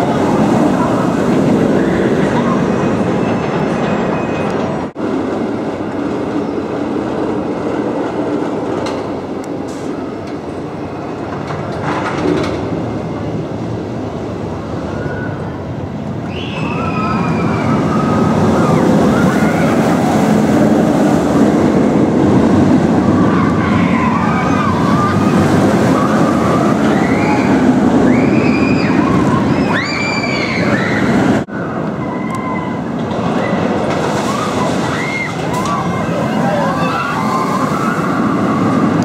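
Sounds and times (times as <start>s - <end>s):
roller coaster rumbling on track: 0.0s - 39.0s.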